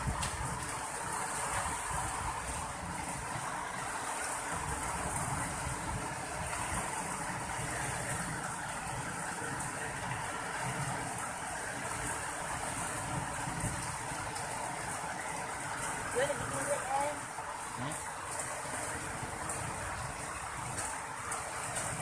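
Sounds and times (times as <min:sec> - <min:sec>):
rain and hail on wet concrete: 0:00.0 - 0:22.0.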